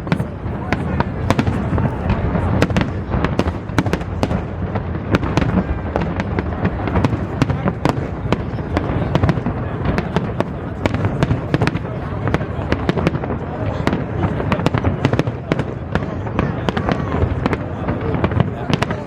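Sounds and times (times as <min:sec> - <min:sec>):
distant explosions rumbling: 0:00.0 - 0:19.0.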